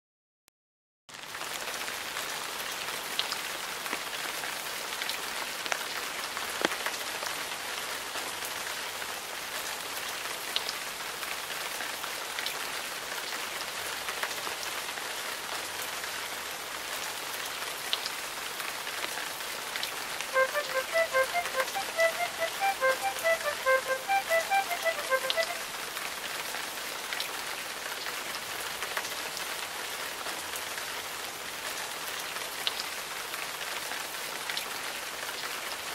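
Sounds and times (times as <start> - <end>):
rain falling: 1.1 - 35.9.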